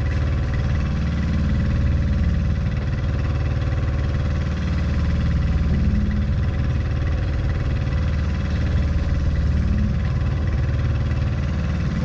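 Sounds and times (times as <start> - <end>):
boat engine humming: 0.0 - 12.0
sea noise: 0.0 - 12.0.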